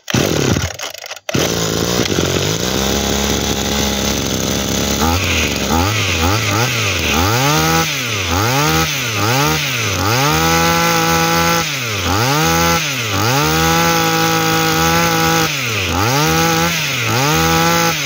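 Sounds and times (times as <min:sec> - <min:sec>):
brush-cutter engine revving: 0:00.0 - 0:18.0.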